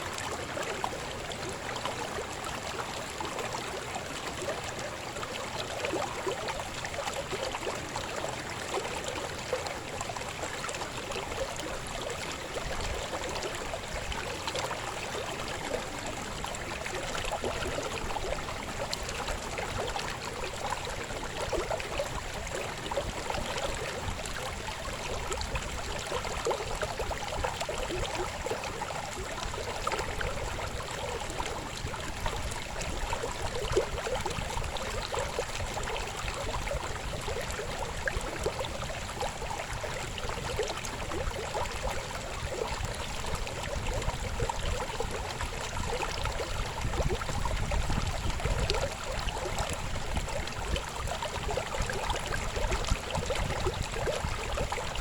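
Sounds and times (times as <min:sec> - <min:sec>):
river babbling over stones: 0:00.0 - 0:55.0.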